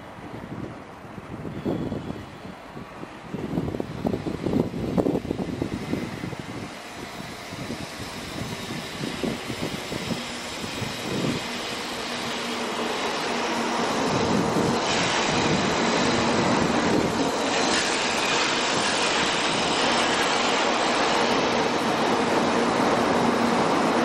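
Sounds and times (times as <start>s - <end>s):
high-speed train arriving: 0.0s - 24.0s.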